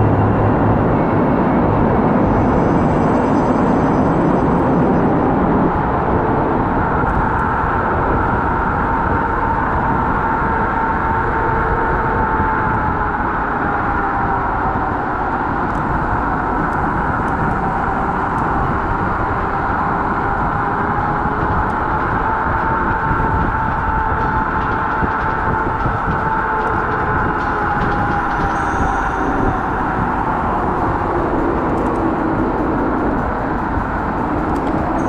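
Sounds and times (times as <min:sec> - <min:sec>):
electric scooter motor whine: 0:00.0 - 0:35.0
wind rumble on microphone: 0:00.0 - 0:35.0.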